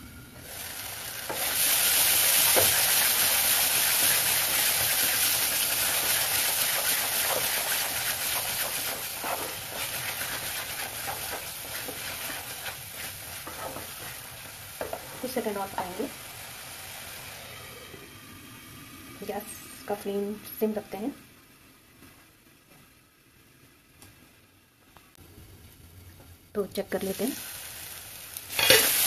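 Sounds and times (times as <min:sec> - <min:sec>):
masala sizzling in oil: 0:00.0 - 0:22.3, 0:26.6 - 0:29.0.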